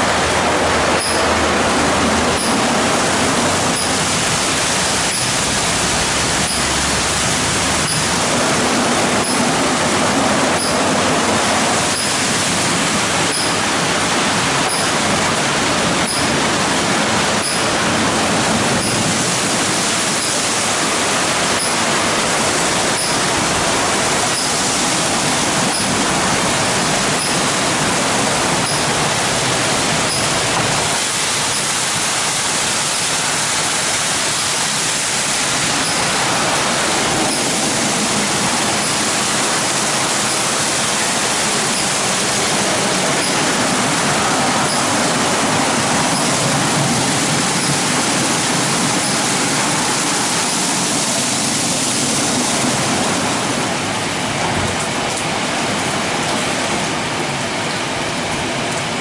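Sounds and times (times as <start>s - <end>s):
spraying water: 0.0s - 59.0s.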